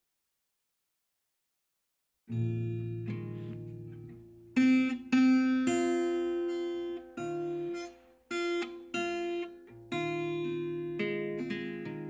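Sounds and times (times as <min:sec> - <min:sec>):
acoustic guitar chords: 0:02.3 - 0:12.0.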